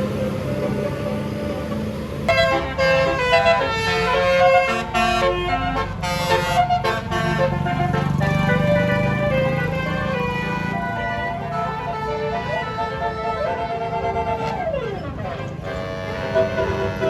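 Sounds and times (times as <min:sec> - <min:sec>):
bus melody horn: 0:00.0 - 0:17.0
low vehicle rumble: 0:00.0 - 0:17.0.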